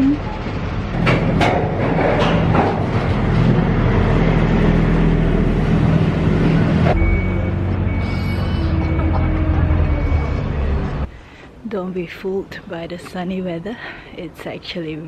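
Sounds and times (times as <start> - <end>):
train rumble with low hum: 0.0 - 15.0.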